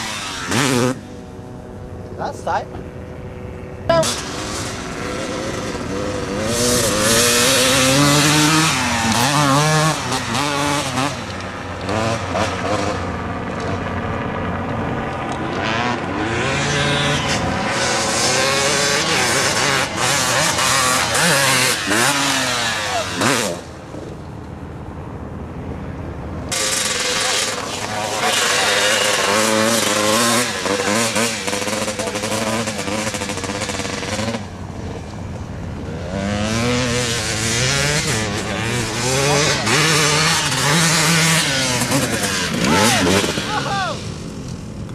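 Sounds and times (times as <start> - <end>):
dirt bike engine revving: 0.0 - 24.4, 26.5 - 44.9.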